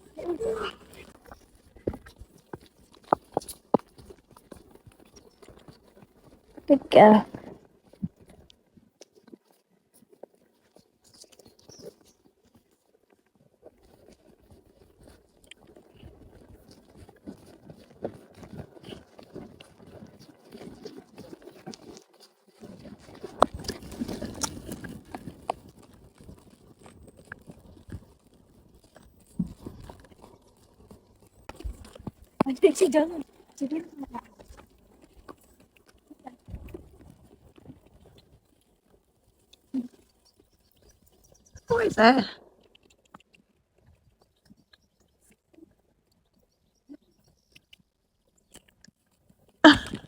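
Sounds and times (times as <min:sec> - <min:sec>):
pony chewing and crunching: 0:00.0 - 0:06.7, 0:07.3 - 0:50.0.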